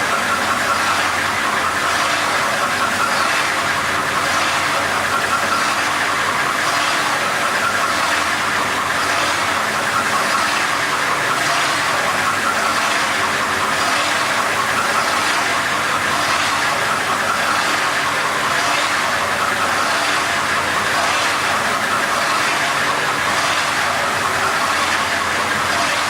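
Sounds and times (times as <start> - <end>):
wet grinder running: 0.0 - 26.0.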